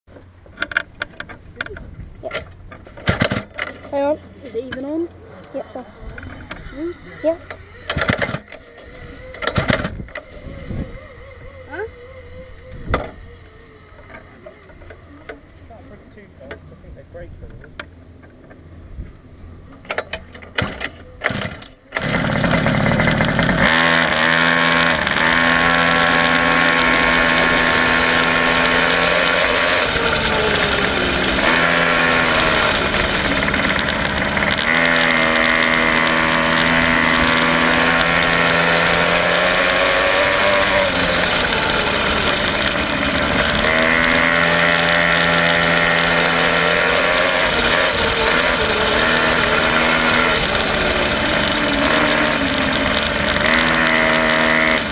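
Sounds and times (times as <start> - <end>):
quad bike engine revving: 1.6 - 15.4, 19.8 - 54.9.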